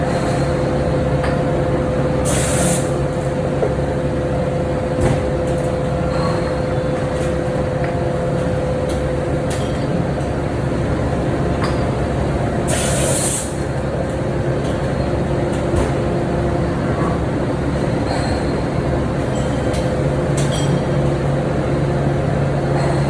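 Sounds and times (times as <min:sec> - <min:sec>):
machinery hum and whine: 0:00.0 - 0:23.0.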